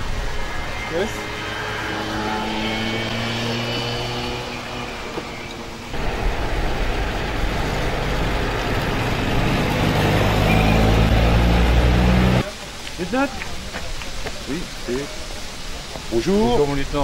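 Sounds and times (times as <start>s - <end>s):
jeep engines rumbling: 0.0s - 15.1s.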